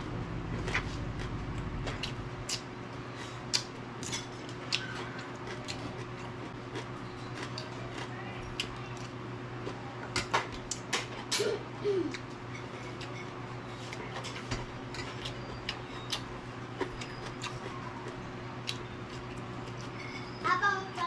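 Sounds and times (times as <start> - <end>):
crunchy chewing of vegetables: 0.0 - 11.3, 12.1 - 20.4
steady low hum: 0.0 - 21.0.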